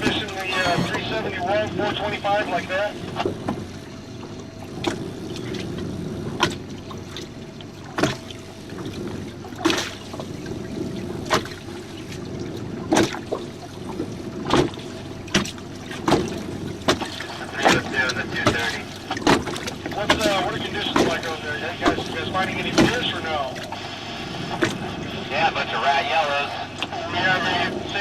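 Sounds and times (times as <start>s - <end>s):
low wash of water: 0.0s - 28.0s
water slapping boat hull: 0.0s - 28.0s.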